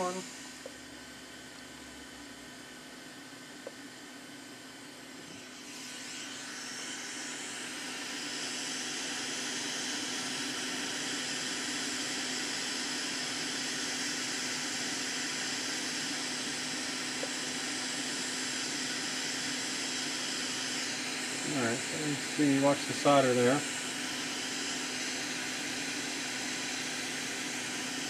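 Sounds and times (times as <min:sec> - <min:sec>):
hot air blower hissing: 0:00.0 - 0:28.0.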